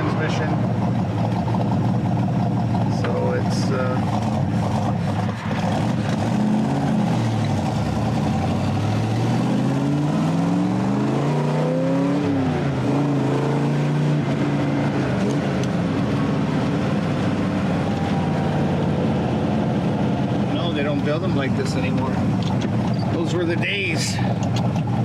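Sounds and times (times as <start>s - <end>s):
car engine accelerating through gears: 0.0s - 23.2s.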